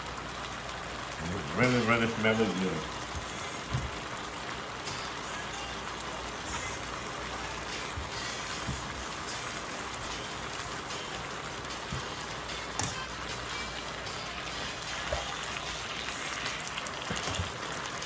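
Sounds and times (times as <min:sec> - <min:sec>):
food sizzling in skillet: 0:01.2 - 0:18.0.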